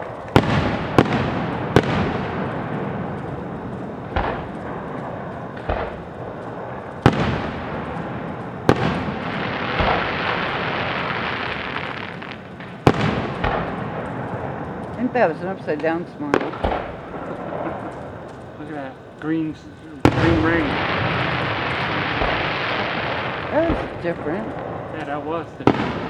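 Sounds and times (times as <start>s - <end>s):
fireworks booming: 0.0s - 26.0s
rumble and hiss: 0.0s - 26.0s.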